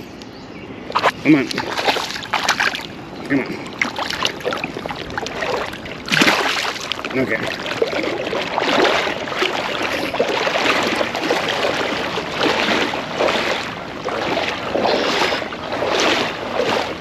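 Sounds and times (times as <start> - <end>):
river water rushing: 0.9 - 17.0.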